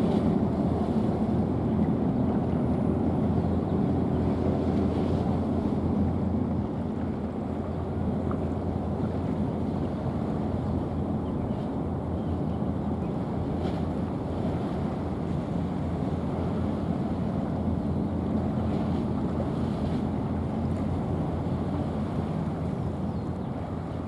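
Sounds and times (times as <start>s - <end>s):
boat engines rumbling: 0.0s - 24.0s.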